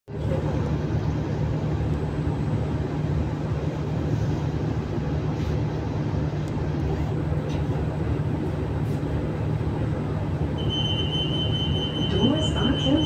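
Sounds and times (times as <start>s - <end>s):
train low hum and rumble: 0.1s - 13.0s.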